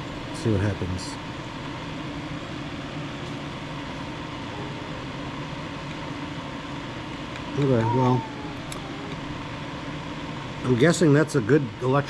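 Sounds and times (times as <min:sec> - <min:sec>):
fan humming and whirring: 0:00.0 - 0:12.0.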